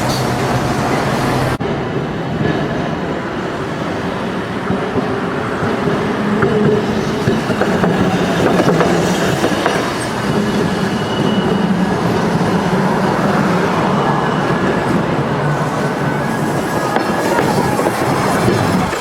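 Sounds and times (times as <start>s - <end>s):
streetcar motor hum: 0.0s - 19.0s
wheels clattering on rails: 0.0s - 19.0s.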